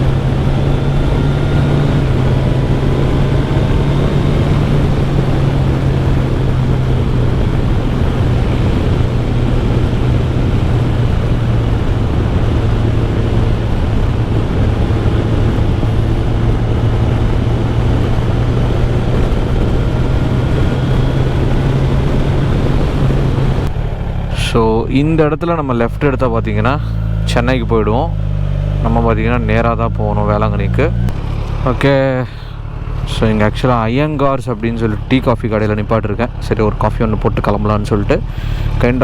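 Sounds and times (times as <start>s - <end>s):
motorcycle engine cruising: 0.0s - 39.0s
wind rush over microphone: 0.0s - 39.0s.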